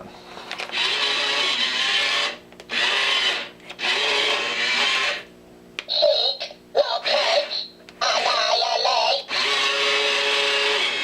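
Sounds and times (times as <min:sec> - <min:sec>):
toy harsh buzzing bursts: 0:00.7 - 0:11.0.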